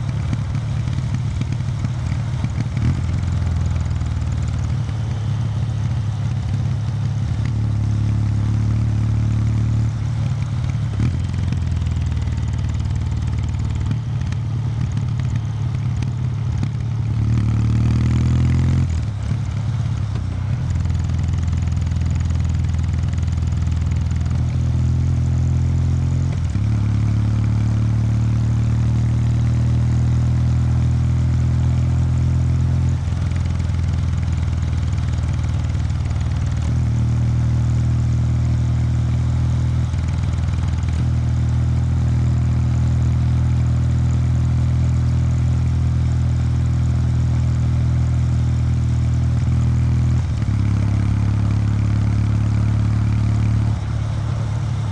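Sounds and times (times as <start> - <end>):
motorcycle engine exhaust: 0.0 - 54.9.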